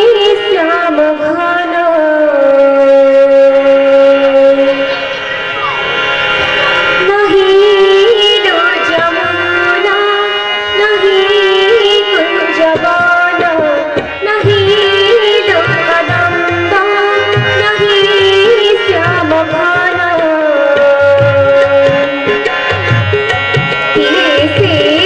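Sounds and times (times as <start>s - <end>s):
ornamented melody line: 0.0s - 25.0s
tabla drums: 0.0s - 25.0s.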